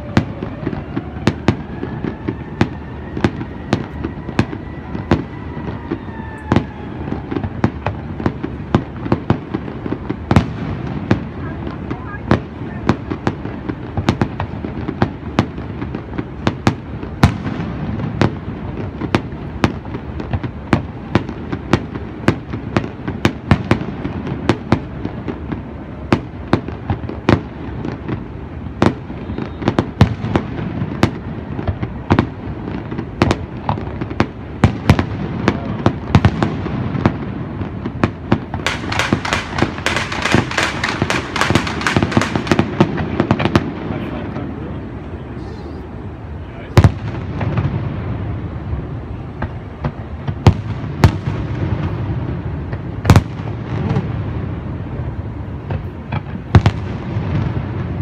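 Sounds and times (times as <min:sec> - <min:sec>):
crackling firework bursts: 0:00.0 - 0:58.0
fireworks bursting with sharp booms: 0:00.0 - 0:58.0.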